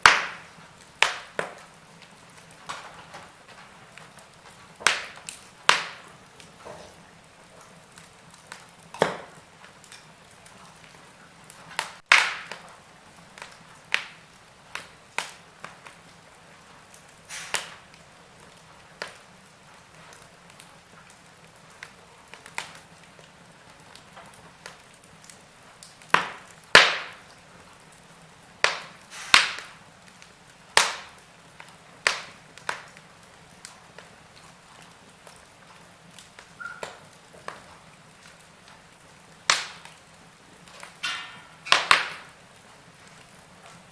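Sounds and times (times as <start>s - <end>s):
faint steady hiss: 0.0s - 43.9s
wood fire crackling: 0.0s - 43.9s.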